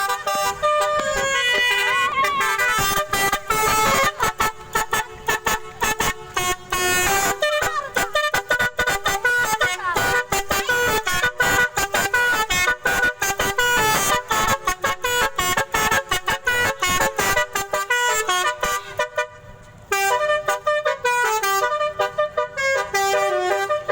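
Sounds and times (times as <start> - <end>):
multi-tone musical horn: 0.0 - 23.9.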